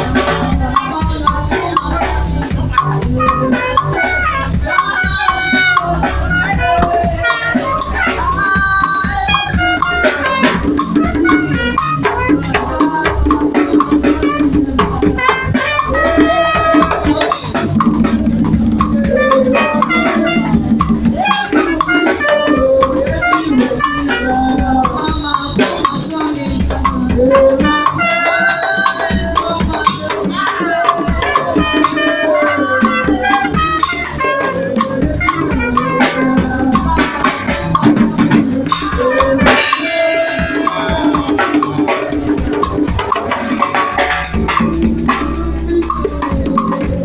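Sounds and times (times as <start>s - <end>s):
drum kit playing beat: 0.0s - 47.0s
trumpet: 0.0s - 47.0s.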